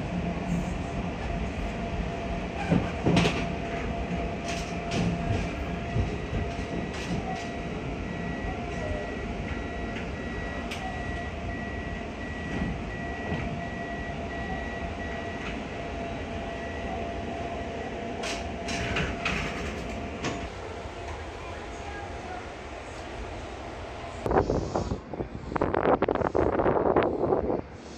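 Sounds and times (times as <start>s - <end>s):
electric train rumbling: 0.0s - 27.9s.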